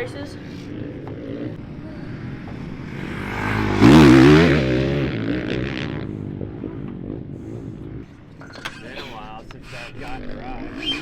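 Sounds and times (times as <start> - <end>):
dirt bike passing by: 0.0 - 11.0.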